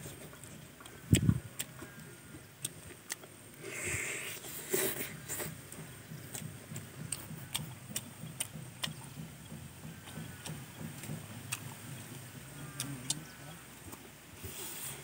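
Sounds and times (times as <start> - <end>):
chewing with wet mouth clicks: 0.0 - 3.6, 5.1 - 14.1.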